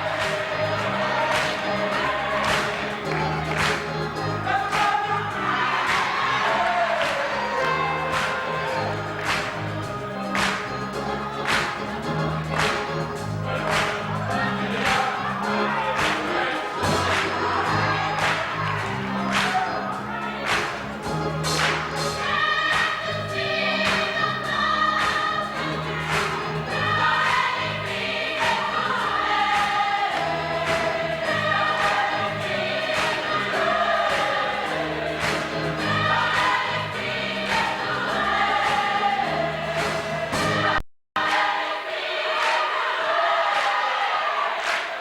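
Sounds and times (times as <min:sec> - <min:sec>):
instrumental accompaniment with beat: 0:00.0 - 0:41.6
gospel choir singing: 0:00.0 - 0:45.0.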